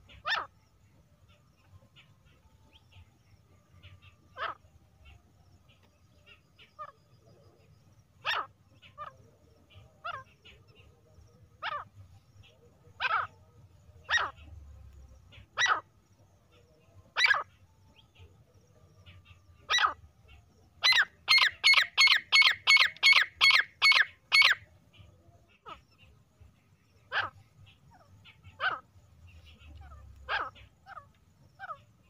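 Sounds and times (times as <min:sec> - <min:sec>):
francolin calling: 0:00.0 - 0:32.0.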